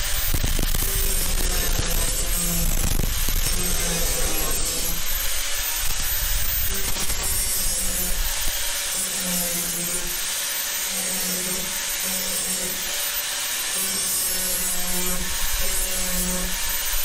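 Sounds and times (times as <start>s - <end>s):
angle grinder cutting plastic: 0.0s - 17.0s.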